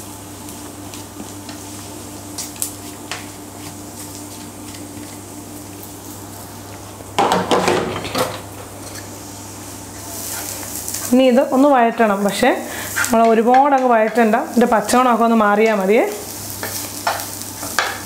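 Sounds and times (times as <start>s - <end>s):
butter sizzling in frying pan: 0.0s - 18.0s.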